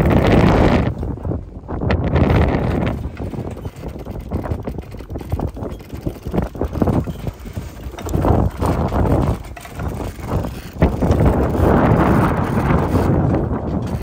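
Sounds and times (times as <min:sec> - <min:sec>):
gusty wind on microphone: 0:00.0 - 0:14.0
rigging knocking and clicking: 0:02.3 - 0:14.0.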